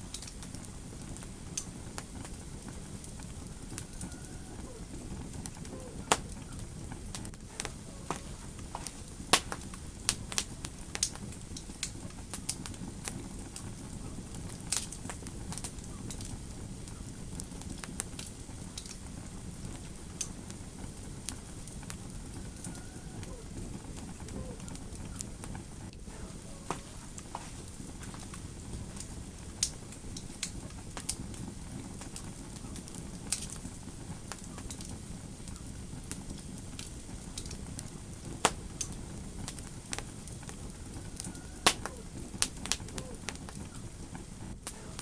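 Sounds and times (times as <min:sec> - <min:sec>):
fire crackling and popping: 0:00.0 - 0:45.0
low fire rumble: 0:00.0 - 0:45.0.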